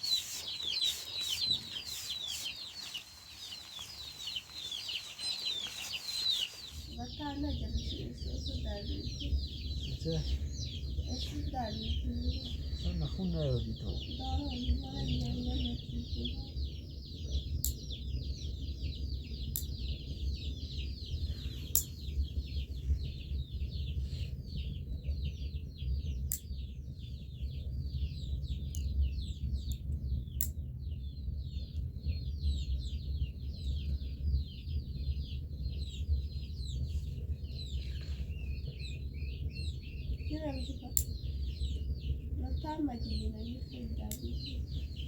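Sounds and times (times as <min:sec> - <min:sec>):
small birds chirping: 0:00.0 - 0:45.0
steady low rumble: 0:00.0 - 0:45.0.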